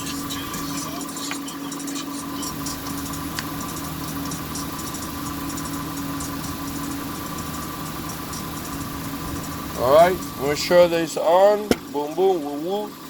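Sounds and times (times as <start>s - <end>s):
machine hum with steady tones: 0.0s - 13.0s.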